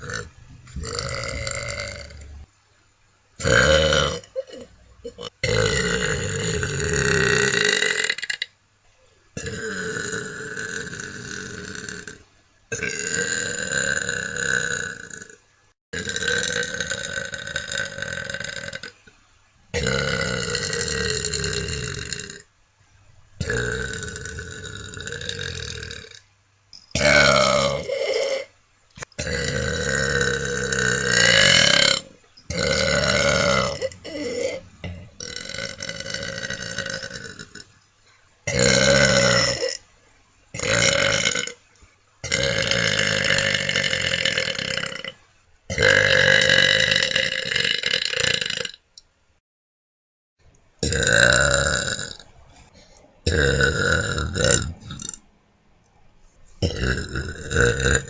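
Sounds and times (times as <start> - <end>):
person burping: 0.0 - 2.5, 3.4 - 8.6, 9.4 - 15.4, 16.0 - 19.1, 19.8 - 22.5, 23.4 - 26.2, 27.0 - 37.7, 38.5 - 39.8, 40.6 - 41.6, 42.2 - 48.8, 50.8 - 52.3, 53.2 - 55.2, 56.6 - 58.0.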